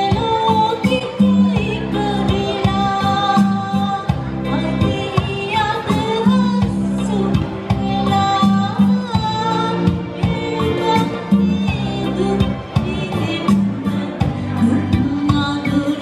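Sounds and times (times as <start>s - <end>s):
live pop band playing: 0.0s - 16.0s
woman singing: 0.0s - 16.0s.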